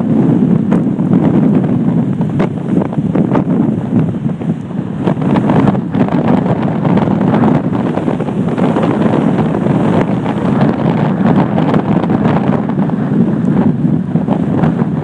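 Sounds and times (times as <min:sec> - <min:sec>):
heavy surf: 0:00.0 - 0:15.0
storm wind on microphone: 0:00.0 - 0:15.0.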